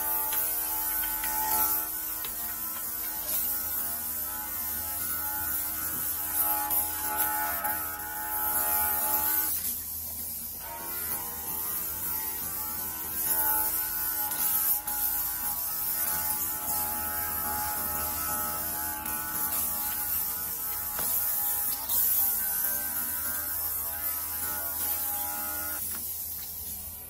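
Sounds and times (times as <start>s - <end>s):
mist sprayer buzzing: 0.0s - 27.0s.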